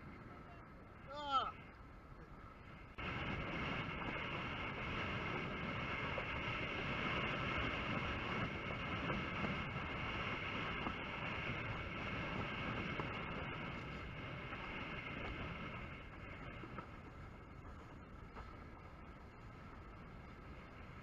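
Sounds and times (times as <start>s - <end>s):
wind and water rushing: 0.0s - 21.0s.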